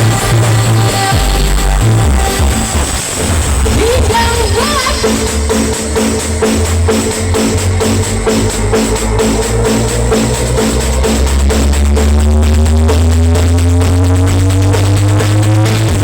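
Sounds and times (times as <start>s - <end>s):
loud bass-heavy dance music: 0.0s - 16.0s.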